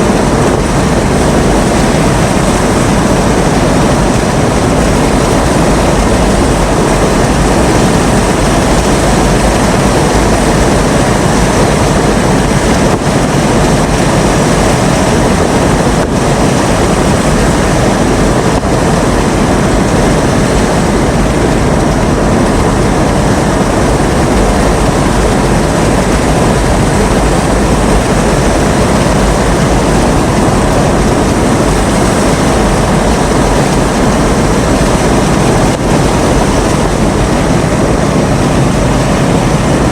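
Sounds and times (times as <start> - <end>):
heavy rain: 0.0 - 39.9
strong storm wind: 0.0 - 39.9
wind buffeting microphone: 0.0 - 39.9.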